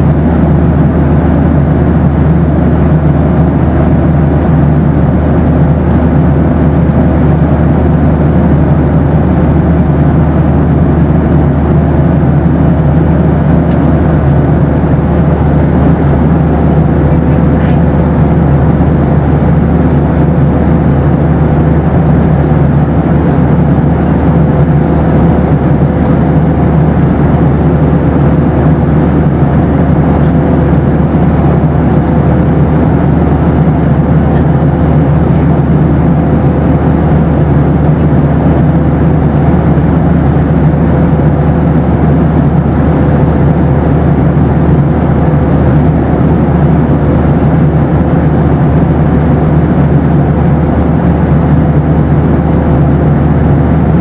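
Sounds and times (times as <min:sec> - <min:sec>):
airliner cabin roar: 0:00.0 - 0:54.0
thin steady hum: 0:00.0 - 0:54.0.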